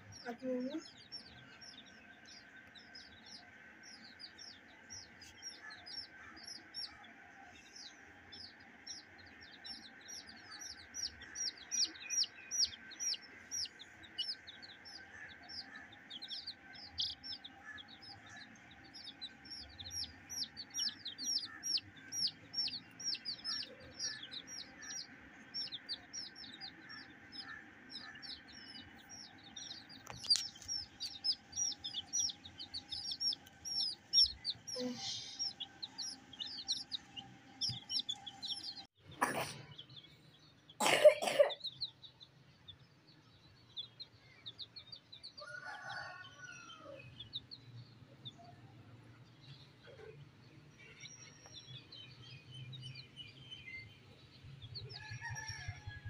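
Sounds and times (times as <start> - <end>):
chicks peeping: 0.0 - 40.8, 41.6 - 56.0.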